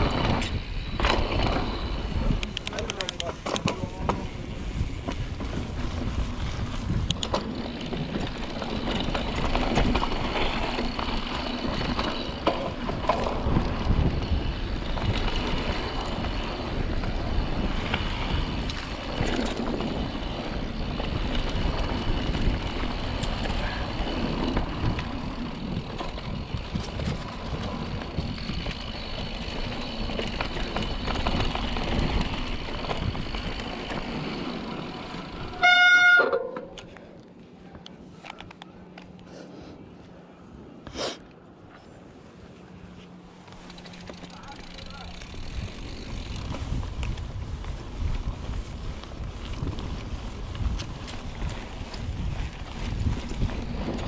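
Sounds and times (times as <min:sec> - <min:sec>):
bike rattling: 0:00.0 - 0:37.4, 0:43.0 - 0:54.0
bike tyres on dirt trail: 0:00.0 - 0:41.2, 0:41.8 - 0:54.0.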